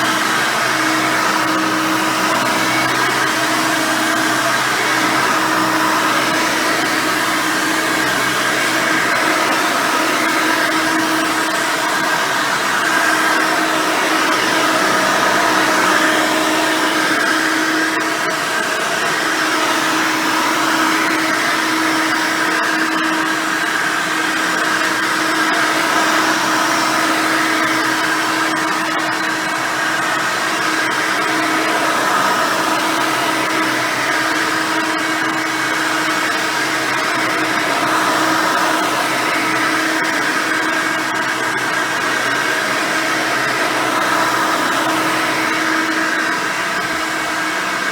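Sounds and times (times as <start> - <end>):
upright vacuum running: 0.0 - 47.9.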